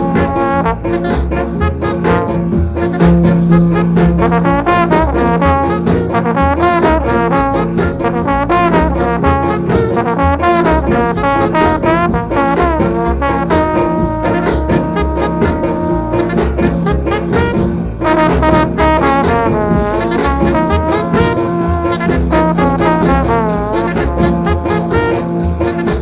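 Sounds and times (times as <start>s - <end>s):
pulsing bass: 0.0s - 26.0s
ska brass melody: 0.0s - 26.0s.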